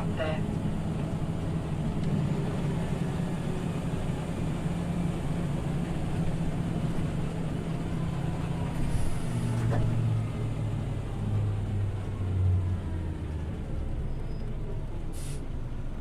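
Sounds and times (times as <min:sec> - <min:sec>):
bus diesel engine drone: 0:00.0 - 0:16.0
road noise: 0:00.0 - 0:16.0.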